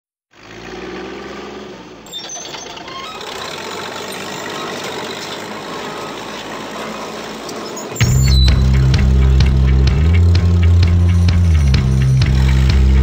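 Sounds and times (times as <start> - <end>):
heavy machinery engine running: 0.4 - 13.0.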